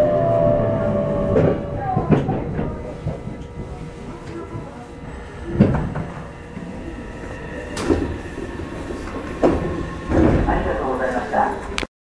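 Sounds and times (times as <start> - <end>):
train interior rumble and hum: 0.0 - 11.9.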